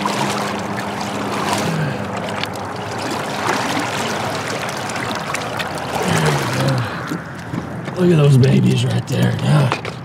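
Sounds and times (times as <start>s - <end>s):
water sloshing into bucket: 0.0s - 8.0s.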